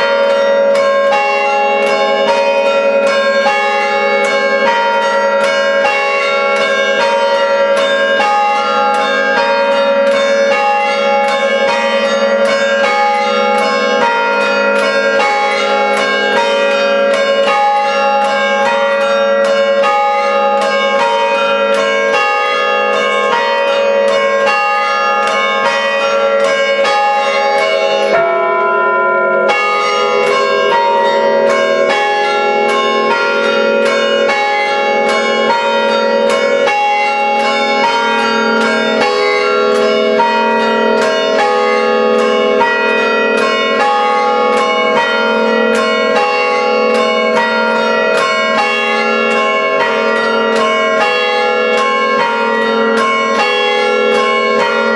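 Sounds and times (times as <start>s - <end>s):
church bells ringing: 0.0s - 54.9s.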